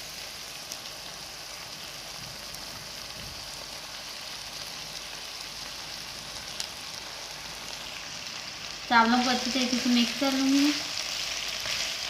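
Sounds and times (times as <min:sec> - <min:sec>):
stir-fry sizzling in a pan: 0:00.0 - 0:12.0.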